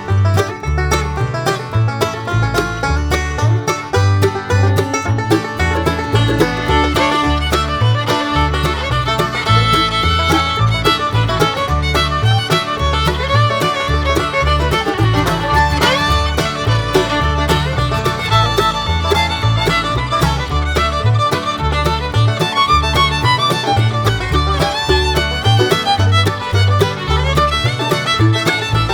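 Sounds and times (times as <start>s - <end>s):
fiddle music: 0.0s - 28.9s
steady bass pulse: 1.0s - 28.9s.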